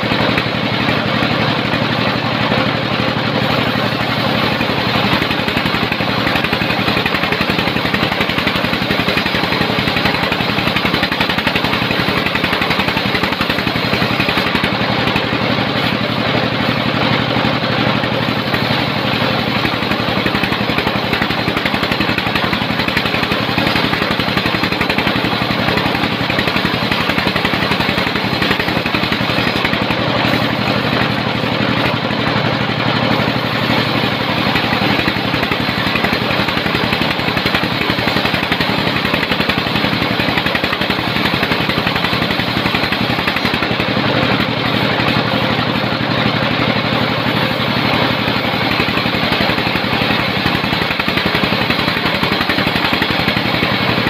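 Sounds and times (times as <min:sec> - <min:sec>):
fast even rattle: 0:00.0 - 0:54.0
sawmill engine running: 0:00.0 - 0:54.0.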